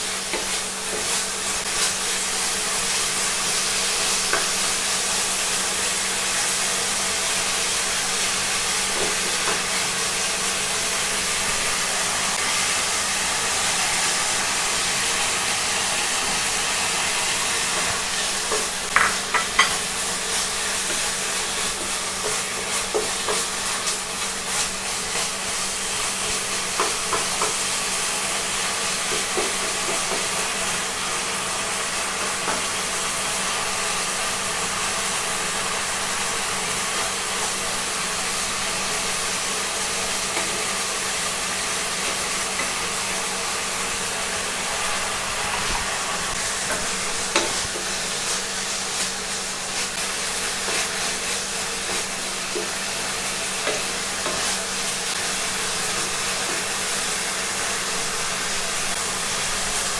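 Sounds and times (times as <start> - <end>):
meat and cabbage sizzling in pan: 0.0 - 59.9.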